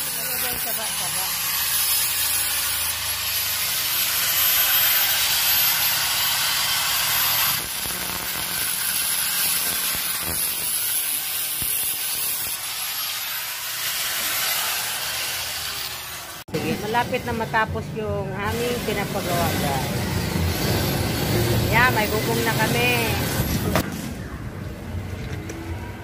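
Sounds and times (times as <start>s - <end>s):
angle grinder grinding steel: 0.0s - 23.8s.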